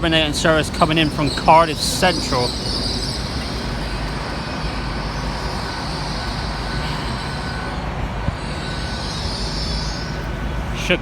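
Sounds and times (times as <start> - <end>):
train diesel engines idling: 0.0 - 11.0.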